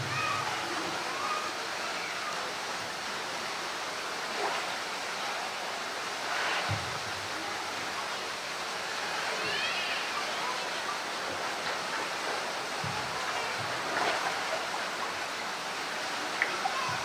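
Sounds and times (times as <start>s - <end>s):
pool water rushing: 0.0s - 17.0s.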